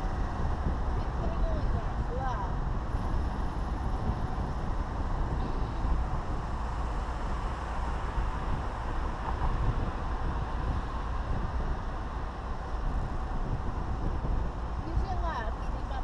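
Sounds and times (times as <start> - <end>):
car engine noise: 0.0 - 16.0
tyre and wind noise: 0.0 - 16.0.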